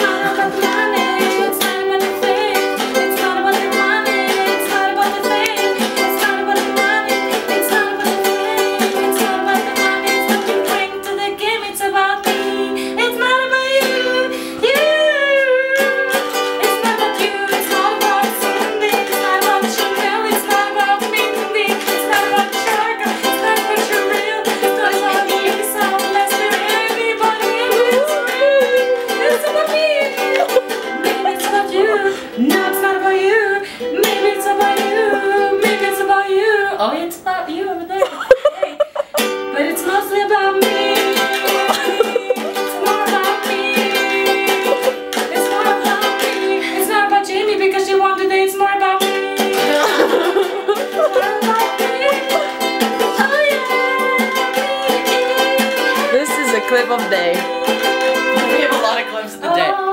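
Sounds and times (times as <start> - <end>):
ukulele strumming: 0.0 - 59.9
woman singing: 0.0 - 59.9.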